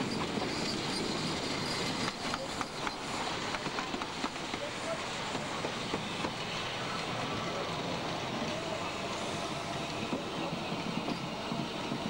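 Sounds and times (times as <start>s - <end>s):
steam locomotive rumbling: 0.0s - 12.0s
faint voices: 2.2s - 12.0s.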